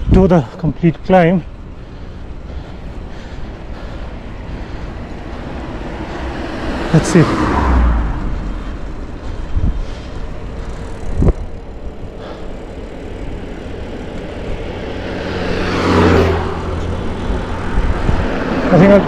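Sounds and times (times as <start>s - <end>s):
wind and road noise: 0.0s - 19.0s
vehicle passing by: 1.0s - 19.0s.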